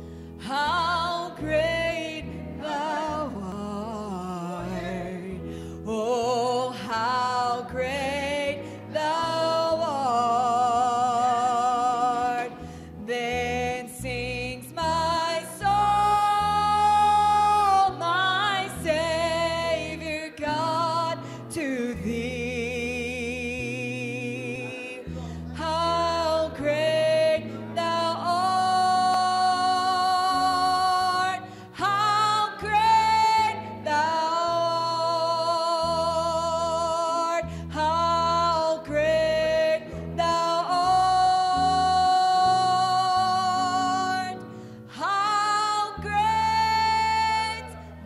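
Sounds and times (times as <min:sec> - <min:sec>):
low instrumental accompaniment: 0:00.0 - 0:48.0
woman singing with vibrato: 0:00.4 - 0:48.0.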